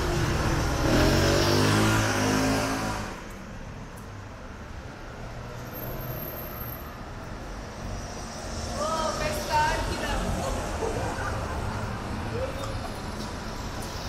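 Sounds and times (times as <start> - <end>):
low street traffic noise: 0.0 - 14.0.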